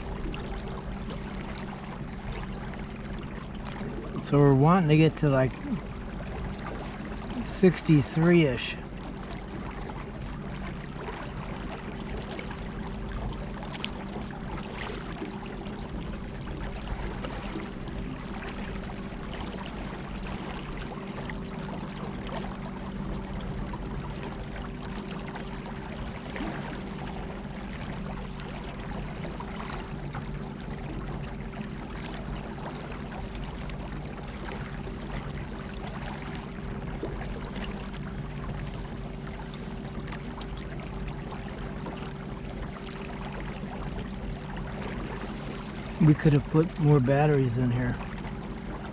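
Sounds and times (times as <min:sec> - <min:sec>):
water lapping around hull: 0:00.0 - 0:48.9.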